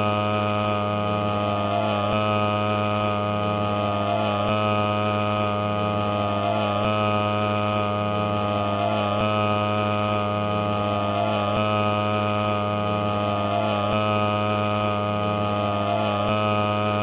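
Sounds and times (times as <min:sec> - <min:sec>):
droning hum: 0:00.0 - 0:17.0.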